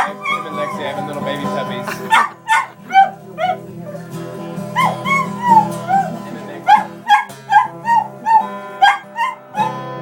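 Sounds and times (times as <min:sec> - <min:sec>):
dog yipping: 0:00.0 - 0:01.4, 0:02.1 - 0:04.1, 0:04.7 - 0:09.8
dog howling: 0:00.0 - 0:10.0
guitar chords: 0:00.0 - 0:10.0.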